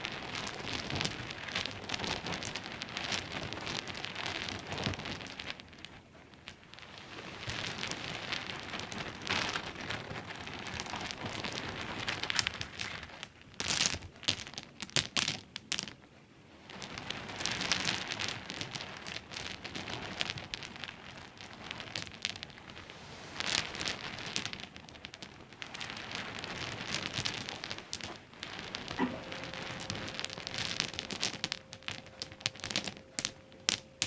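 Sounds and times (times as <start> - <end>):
pebbles clicking and rattling: 0.0 - 34.0.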